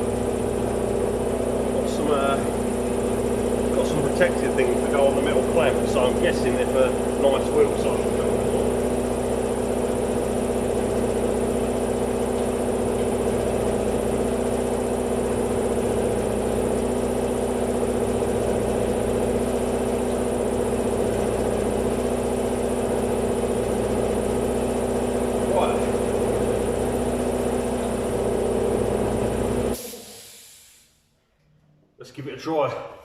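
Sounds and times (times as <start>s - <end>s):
air compressor running: 0.0s - 31.0s.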